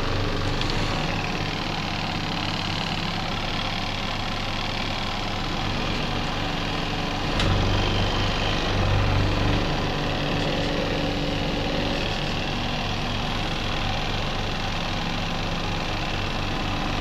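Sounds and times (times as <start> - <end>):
washing machine humming: 0.0 - 17.0
whirring rattling noise: 0.0 - 17.0.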